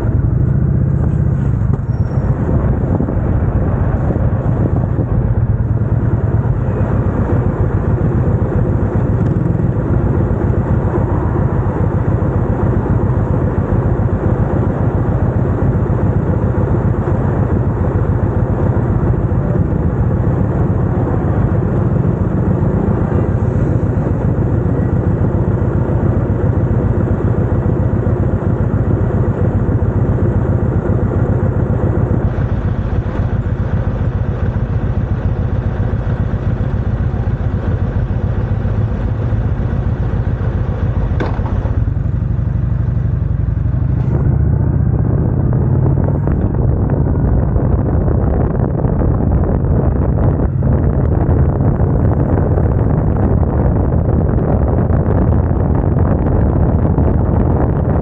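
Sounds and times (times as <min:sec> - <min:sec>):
motorcycle engine low rumble: 0:00.0 - 0:58.0.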